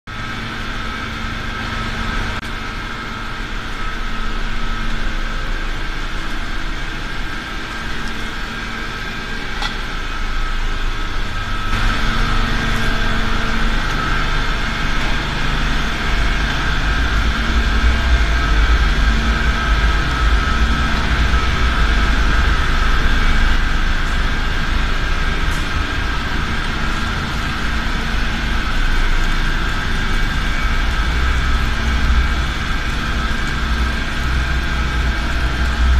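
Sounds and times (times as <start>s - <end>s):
drilling rig machine whine: 0.1s - 35.9s.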